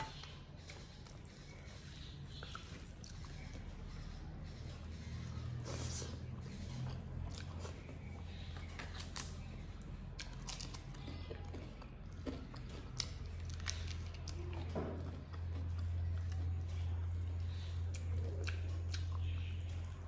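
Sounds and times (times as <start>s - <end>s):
chewing crunchy food: 0.0s - 20.0s
steady low hum: 0.0s - 20.0s.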